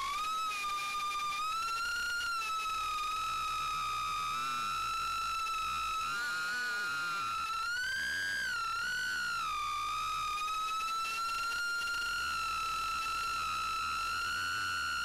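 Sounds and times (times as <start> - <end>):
drone motors high-pitched whine: 0.0 - 15.0.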